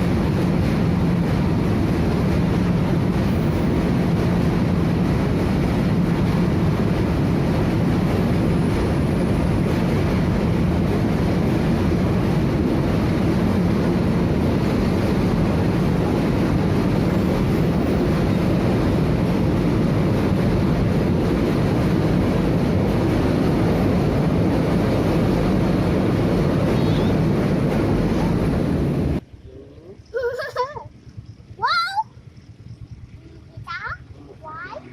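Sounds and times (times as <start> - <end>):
freight train rolling on rails: 0.0 - 34.9.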